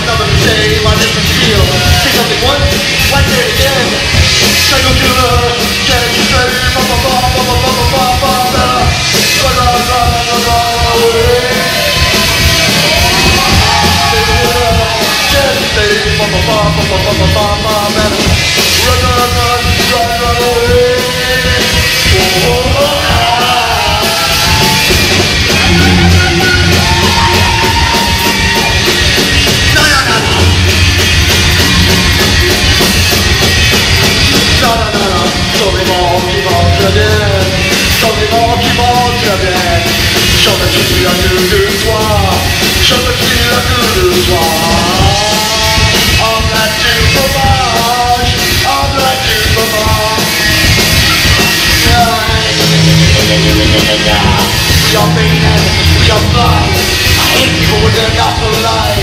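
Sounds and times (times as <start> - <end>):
bending lead guitar line: 0.0 - 59.0
dense drumming: 0.0 - 59.0
live rock band playing: 0.0 - 59.0.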